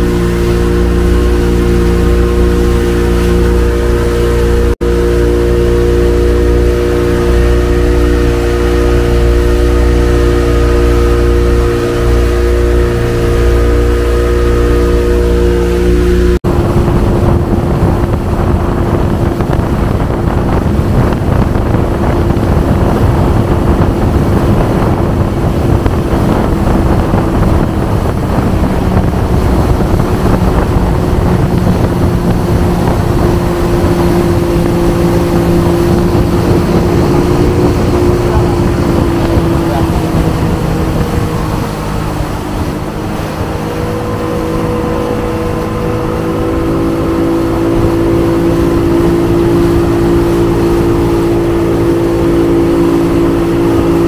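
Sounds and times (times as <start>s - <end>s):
boat engine running: 0.0s - 54.0s
rush of wind and water: 0.0s - 54.0s.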